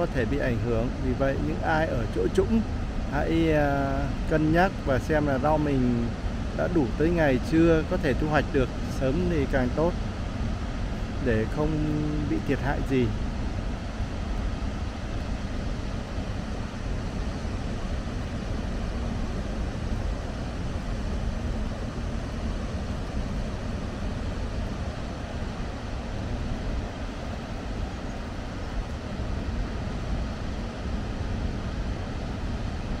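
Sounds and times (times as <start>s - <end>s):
water rushing from spillway: 0.0s - 33.0s.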